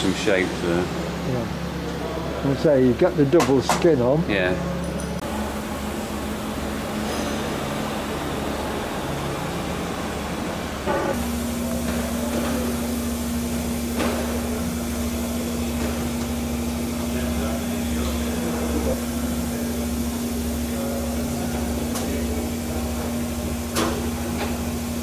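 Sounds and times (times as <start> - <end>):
machine hum with held tone: 4.2 - 25.0.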